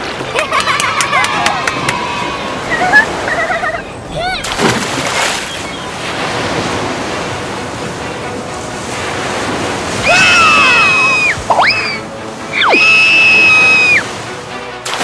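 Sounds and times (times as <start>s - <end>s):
rushing water noise: 0.0s - 15.0s.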